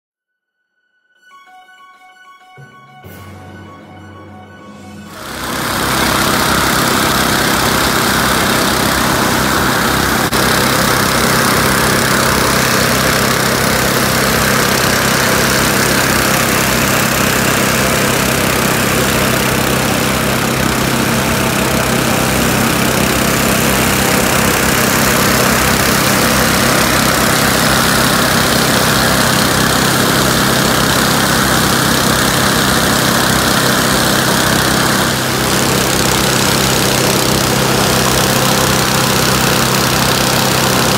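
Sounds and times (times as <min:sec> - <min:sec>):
petrol engine drone: 0:01.4 - 0:40.9.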